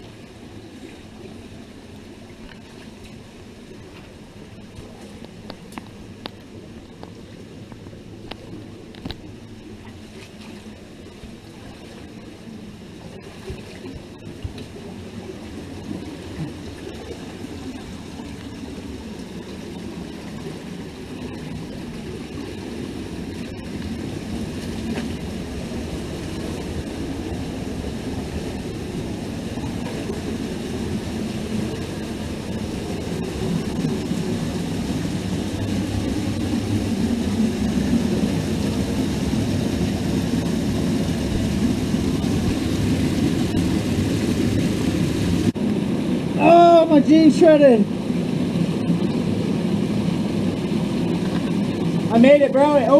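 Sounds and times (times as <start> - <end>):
stream rushing over rocks: 0.0 - 52.9.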